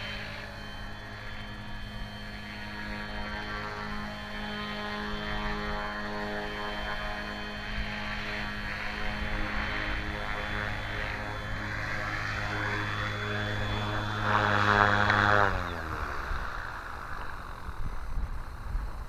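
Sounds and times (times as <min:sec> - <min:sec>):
model helicopter motor and rotor: 0:00.0 - 0:19.0.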